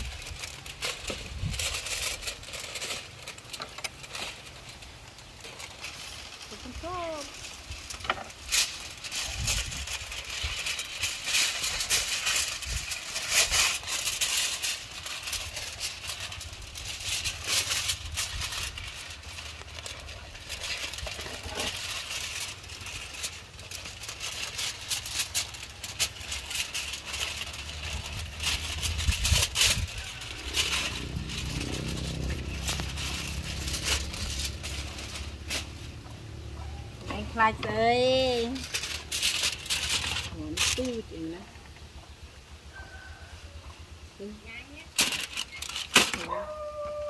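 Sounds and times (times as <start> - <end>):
aluminium foil crinkling: 0.0 - 43.2, 44.2 - 47.0.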